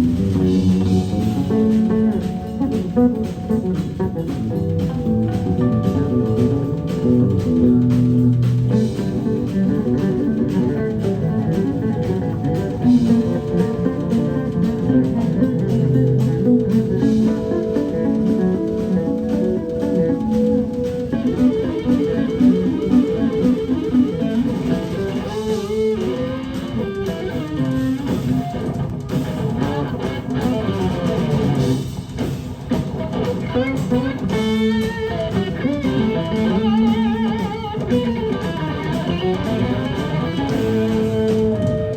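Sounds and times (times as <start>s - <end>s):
bass guitar: 0.0s - 41.9s
drums: 0.0s - 41.9s
electric guitar leading: 0.0s - 41.9s.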